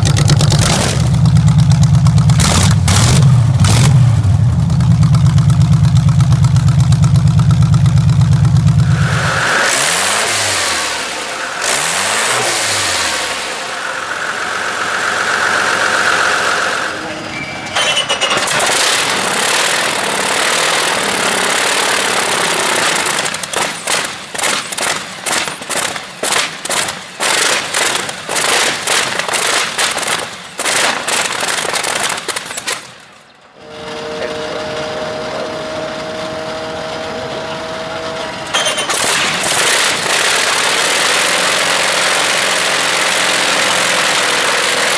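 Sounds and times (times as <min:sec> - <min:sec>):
large engine: 0:00.0 - 0:44.9.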